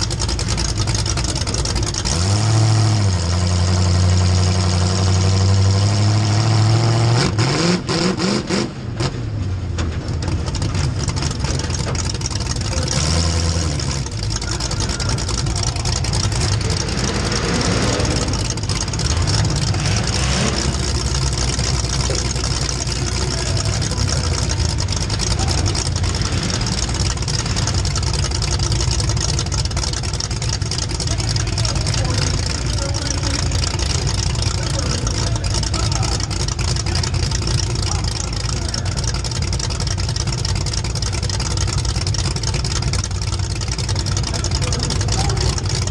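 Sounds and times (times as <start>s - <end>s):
race engine revving: 0.0s - 9.5s, 10.2s - 45.9s.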